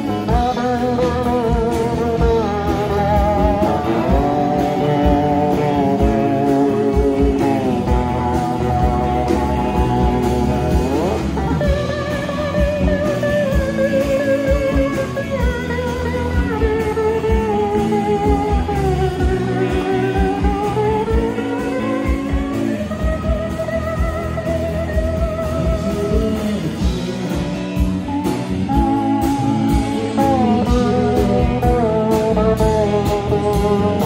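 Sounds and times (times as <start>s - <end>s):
drums: 0.0s - 34.0s
electric guitar lead: 0.0s - 34.0s
rhythm guitars: 0.0s - 34.0s.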